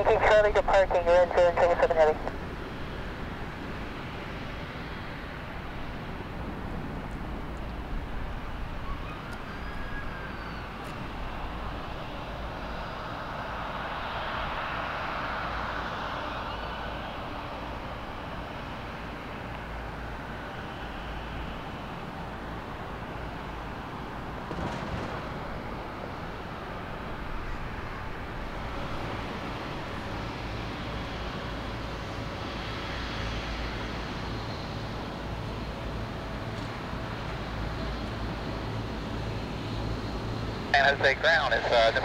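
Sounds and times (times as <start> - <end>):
jet engines idling: 0.0 - 42.0.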